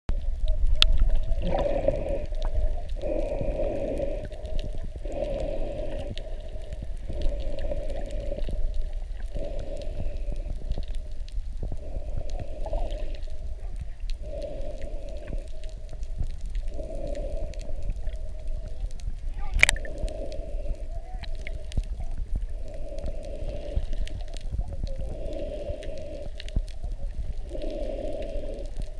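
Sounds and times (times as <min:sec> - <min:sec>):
underwater low rumble: 0:00.1 - 0:28.9.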